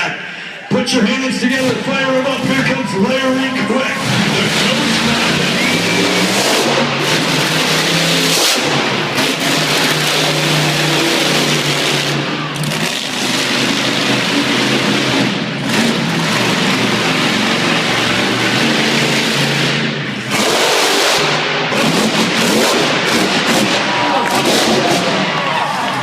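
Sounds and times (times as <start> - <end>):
truck engine revving hard: 1.3 - 26.0.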